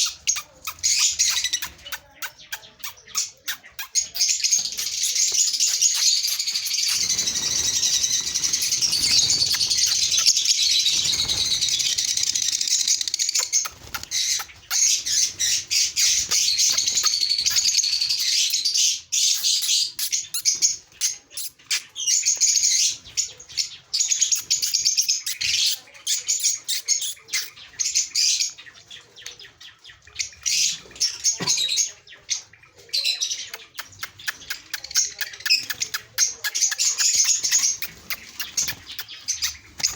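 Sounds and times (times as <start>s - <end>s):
caged birds chirping: 0.0s - 39.9s.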